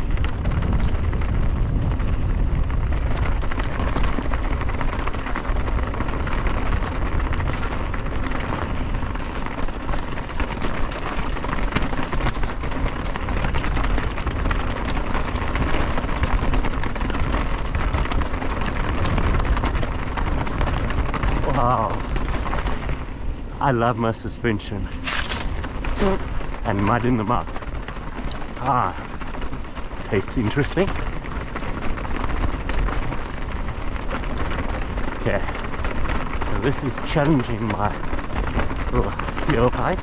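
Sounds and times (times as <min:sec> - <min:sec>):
bike rattling knocks: 0:00.0 - 0:40.0
bike tyres crunching over gravel: 0:00.0 - 0:40.0
wind rumble on microphone: 0:00.0 - 0:40.0.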